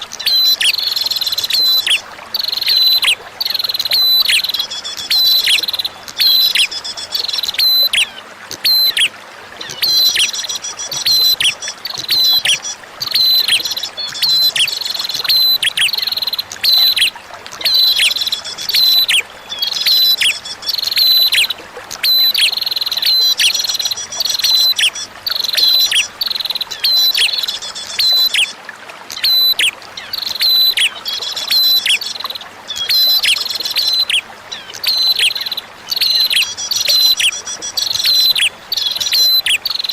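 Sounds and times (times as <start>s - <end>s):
trickle of flowing water: 0.0s - 39.9s
bird chirping song: 0.2s - 39.9s.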